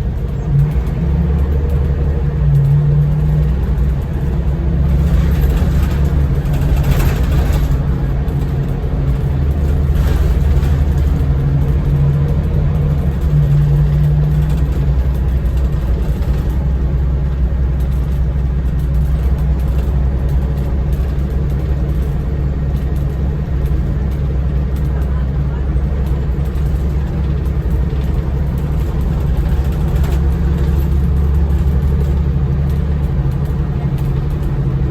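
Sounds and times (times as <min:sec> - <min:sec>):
bus engine running: 0:00.0 - 0:34.9.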